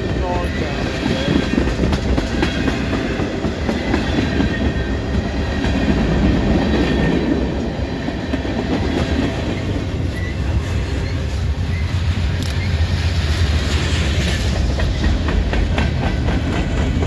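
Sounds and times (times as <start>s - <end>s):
clickety-clack of rails: 0.0s - 17.0s
train wheels rumbling on rails: 0.0s - 17.0s.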